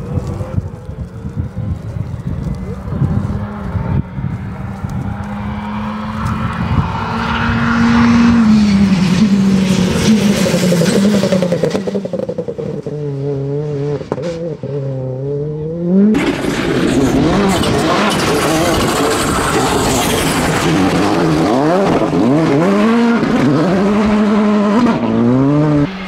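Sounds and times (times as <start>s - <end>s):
rally car approaching at full throttle: 0.0s - 26.0s
rally car engine revving: 2.4s - 26.0s.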